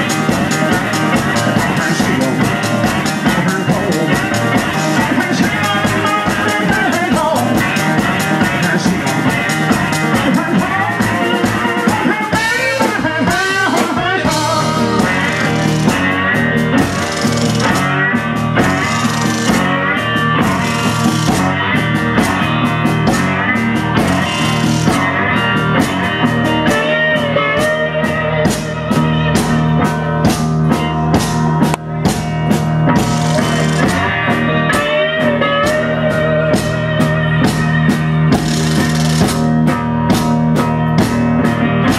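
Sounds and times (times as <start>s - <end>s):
blues guitar lead: 0.0s - 41.9s
drum kit: 0.0s - 41.9s.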